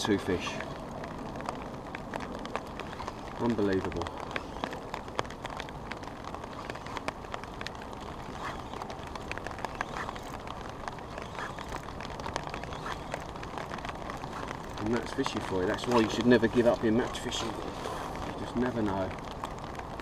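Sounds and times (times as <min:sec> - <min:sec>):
rain hissing on canopy: 0:00.0 - 0:20.0
sharp raindrop taps: 0:00.0 - 0:20.0.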